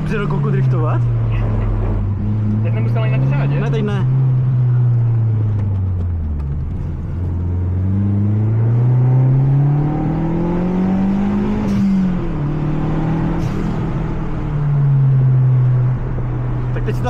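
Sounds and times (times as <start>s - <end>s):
car engine revving under hard driving: 0.0s - 17.0s.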